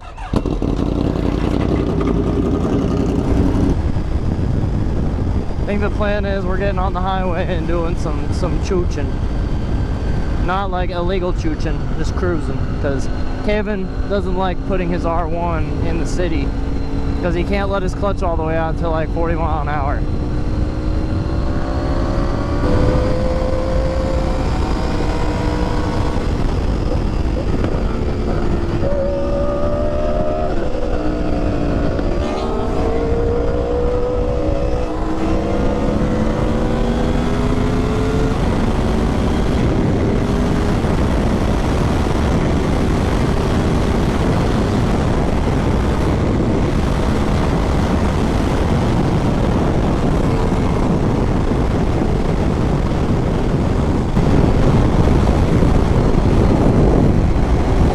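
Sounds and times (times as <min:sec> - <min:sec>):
motorcycles accelerating: 0:00.0 - 0:57.9
road noise: 0:00.0 - 0:57.9
wind rush: 0:00.0 - 0:57.9.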